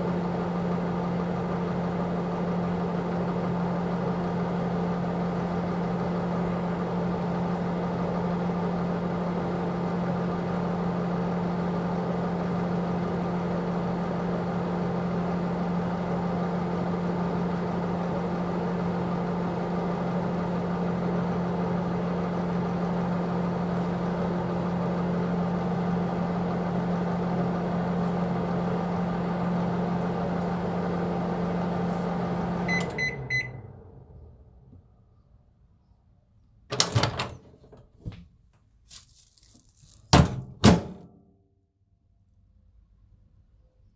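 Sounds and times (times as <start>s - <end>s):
microwave oven humming: 0.0s - 35.0s, 36.7s - 38.2s, 40.2s - 41.2s.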